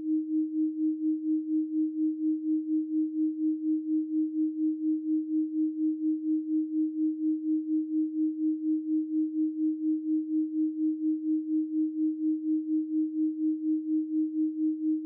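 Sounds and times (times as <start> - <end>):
pulsing sine tone: 0.0 - 15.0.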